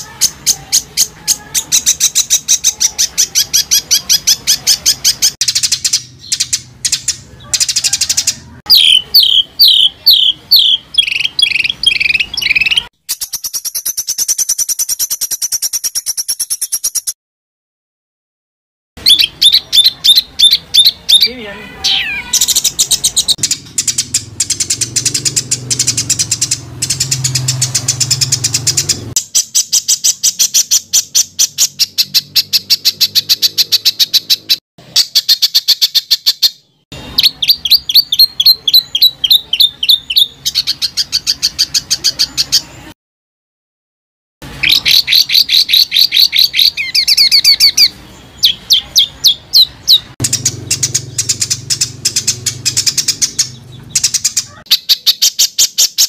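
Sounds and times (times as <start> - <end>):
songbird harsh repeated notes: 0.0 - 17.2, 19.0 - 42.9, 44.4 - 56.0.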